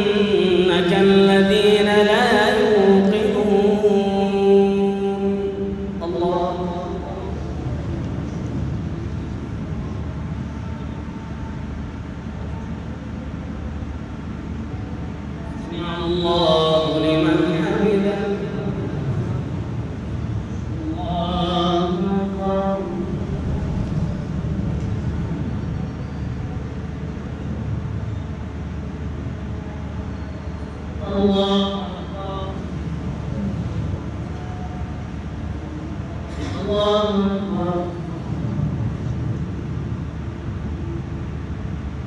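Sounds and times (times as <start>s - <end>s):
fans running: 0.0s - 42.0s
low rumble of a packed hall: 0.0s - 42.0s.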